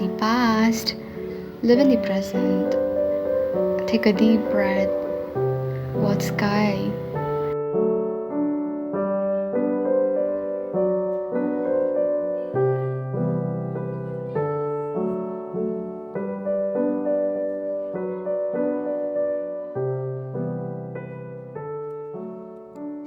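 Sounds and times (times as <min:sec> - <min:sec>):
gentle solo piano: 0:00.0 - 0:23.0.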